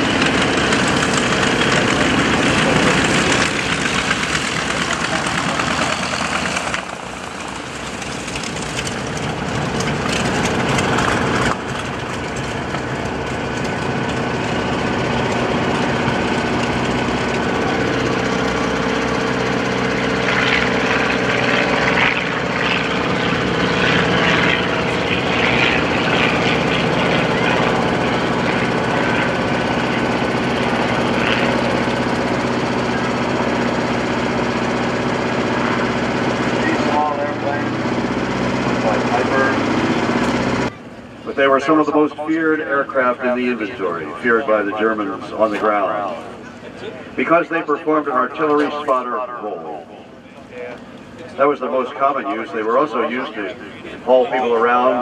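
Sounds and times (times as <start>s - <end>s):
small piston plane engines flying past: 0.0s - 55.0s.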